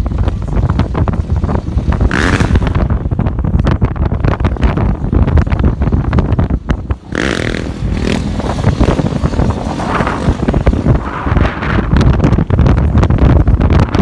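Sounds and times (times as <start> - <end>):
car engine noise: 0.0 - 14.0
wind buffeting microphone: 0.0 - 14.0.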